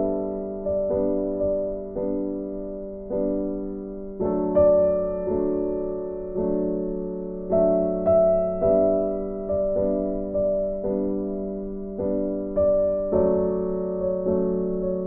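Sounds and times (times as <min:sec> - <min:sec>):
soft solo piano chords: 0:00.0 - 0:15.0.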